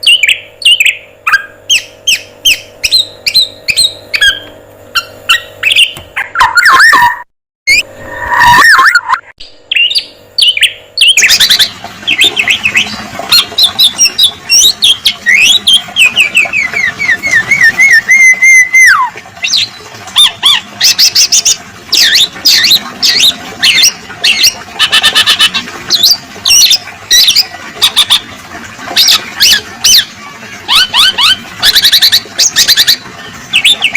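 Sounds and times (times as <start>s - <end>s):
songbirds calling: 0.0s - 7.2s, 9.4s - 28.3s, 29.0s - 33.9s.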